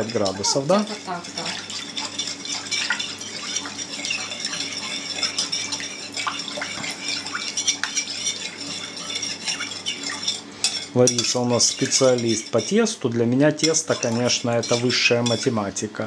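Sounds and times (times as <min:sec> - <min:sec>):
metal spoon stirring in a bowl: 0:00.0 - 0:16.0.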